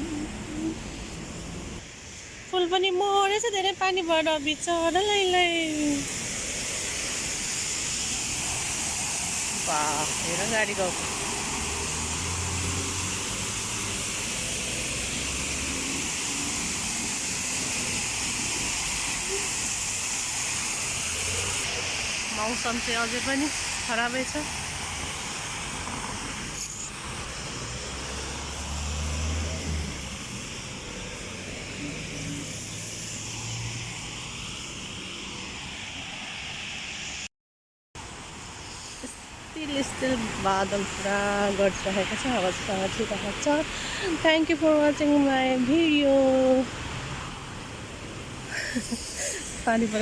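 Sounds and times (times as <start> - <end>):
heavy rain pouring: 0.0 - 2.5, 3.2 - 37.2, 38.0 - 50.0.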